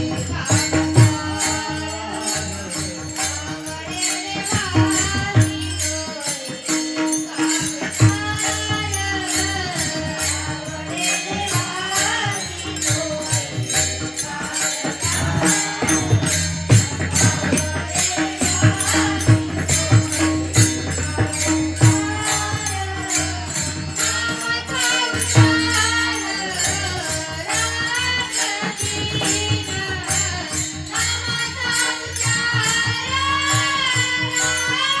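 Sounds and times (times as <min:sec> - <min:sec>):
cymbal jingling: 0:00.0 - 0:35.0
woman singing: 0:00.0 - 0:35.0.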